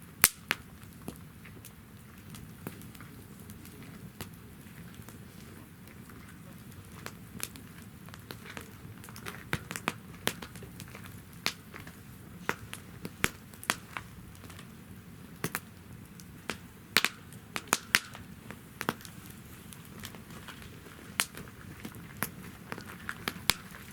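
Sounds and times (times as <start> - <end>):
wood fire crackling and popping: 0.0 - 23.9.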